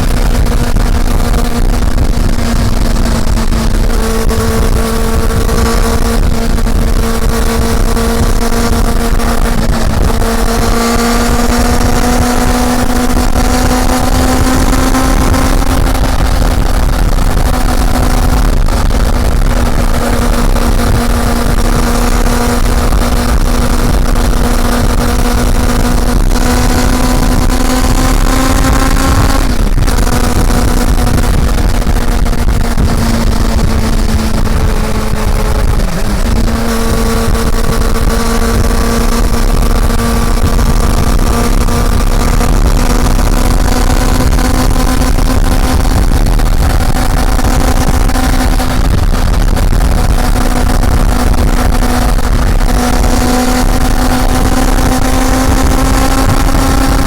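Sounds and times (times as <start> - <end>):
motorcycle engine at high revs: 0.0 - 57.0
wind rumble on microphone: 0.0 - 57.0.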